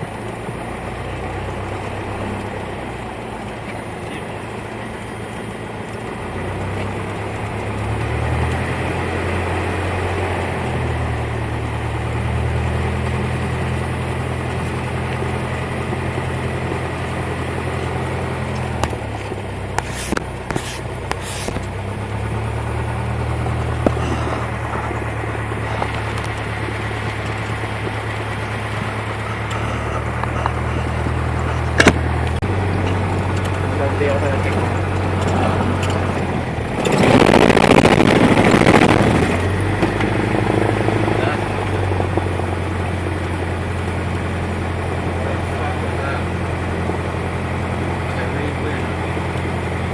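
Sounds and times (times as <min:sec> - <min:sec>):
propeller plane engine droning: 0:00.0 - 0:49.9.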